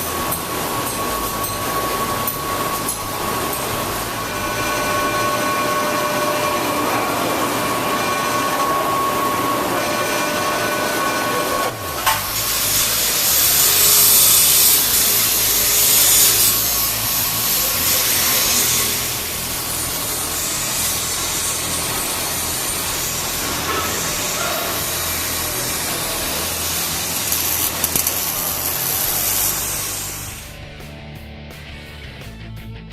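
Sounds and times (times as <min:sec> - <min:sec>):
hissing grinding noise: 0:00.0 - 0:30.6
steady machine whine: 0:00.0 - 0:30.9.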